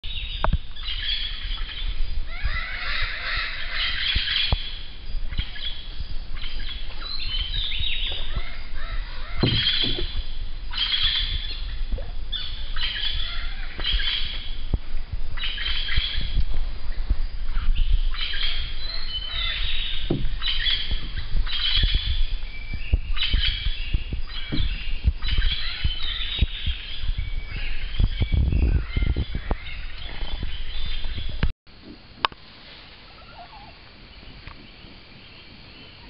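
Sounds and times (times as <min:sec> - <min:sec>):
birds chirping and calling: 0:00.0 - 0:31.5, 0:33.1 - 0:36.0
steady low rumble: 0:00.0 - 0:36.0.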